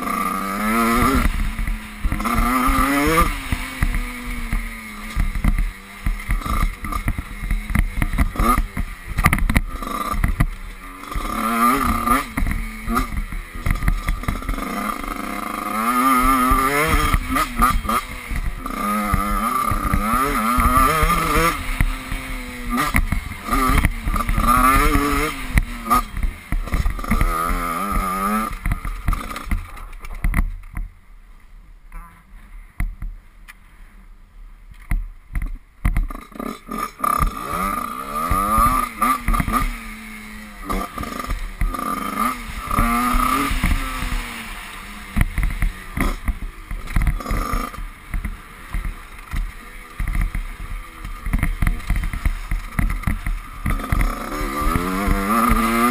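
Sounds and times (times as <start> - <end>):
motocross bike engine revving: 0.0 - 30.8, 35.8 - 55.9.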